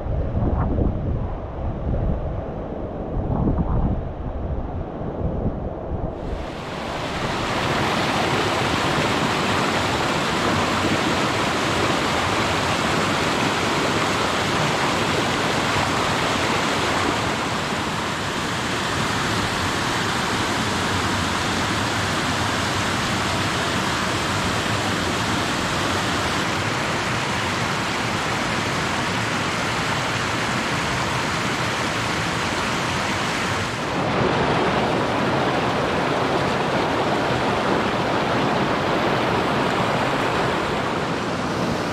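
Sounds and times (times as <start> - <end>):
creek water rushing over boulders: 6.2 - 41.9.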